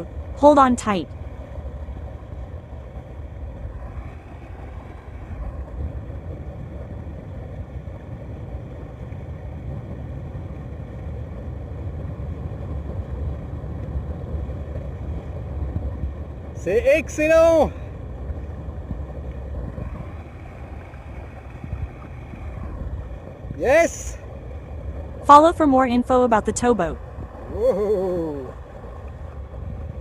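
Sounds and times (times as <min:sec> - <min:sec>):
boat motor rumbling: 0:00.0 - 0:30.0
water: 0:00.0 - 0:30.0
wind: 0:00.0 - 0:30.0.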